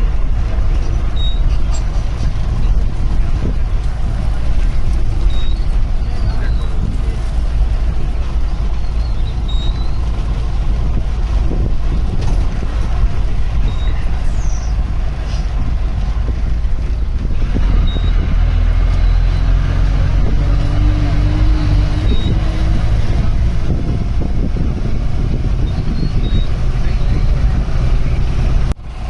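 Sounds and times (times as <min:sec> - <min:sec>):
road noise: 0:00.0 - 0:29.0
vehicle engine rumbling: 0:00.0 - 0:29.0.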